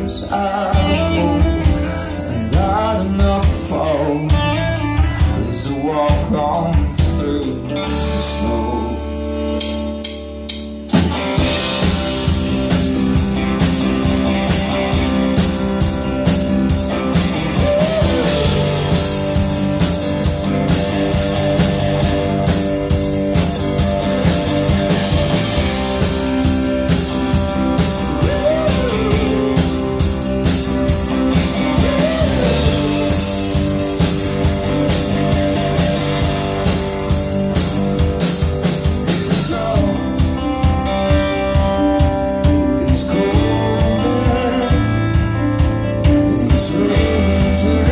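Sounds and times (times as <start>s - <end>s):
bass guitar: 0.0s - 47.9s
digital piano: 0.0s - 47.9s
drum kit: 0.0s - 47.9s
electric guitar: 0.0s - 47.9s
rock band playing: 0.0s - 47.9s.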